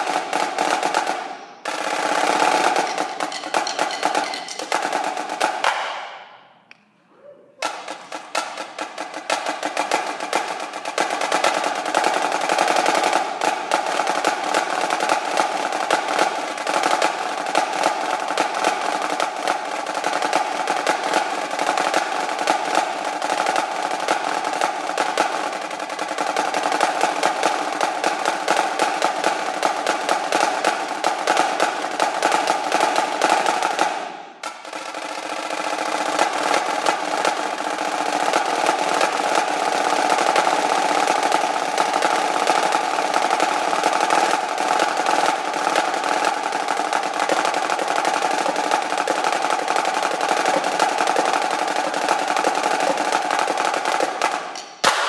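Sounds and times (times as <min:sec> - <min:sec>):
snare drum rolls: 0:00.0 - 0:06.7, 0:07.6 - 0:55.0.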